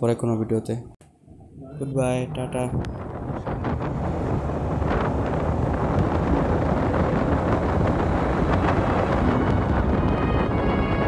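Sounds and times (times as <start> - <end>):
wind rushing over microphone: 1.3 - 11.0
motorcycle engine and road noise: 2.0 - 11.0.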